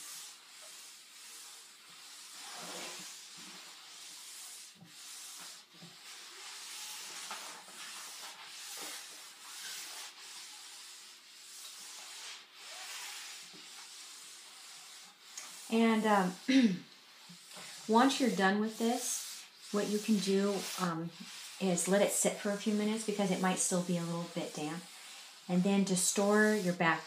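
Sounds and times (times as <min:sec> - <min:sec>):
iron rubbing and hissing on vinyl: 0:00.0 - 0:27.0.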